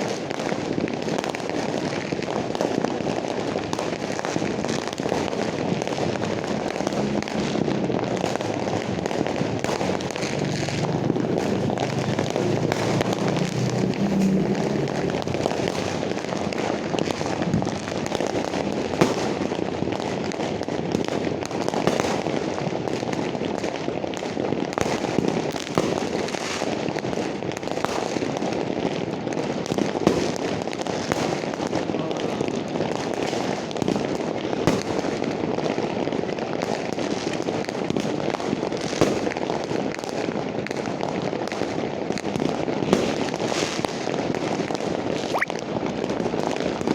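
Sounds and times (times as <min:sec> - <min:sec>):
firework bangs: 0:00.0 - 0:46.9
fireworks crackling: 0:00.0 - 0:46.9.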